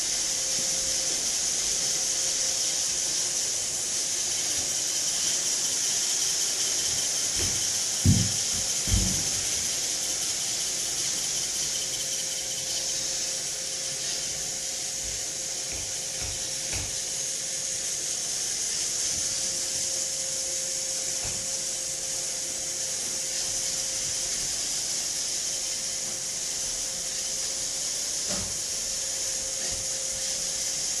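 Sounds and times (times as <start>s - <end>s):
robot vacuum hiss: 0.0s - 31.0s.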